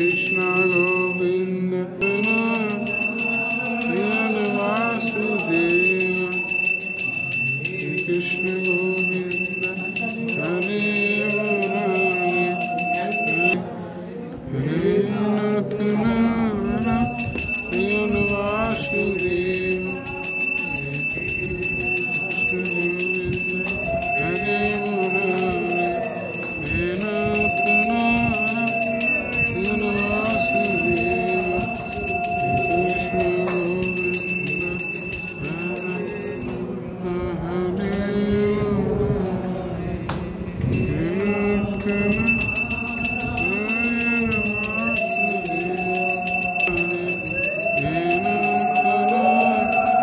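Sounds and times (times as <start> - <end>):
bell ringing steadily: 0.0 - 13.6, 16.5 - 36.8, 40.6 - 50.0
group devotional singing: 0.0 - 50.0.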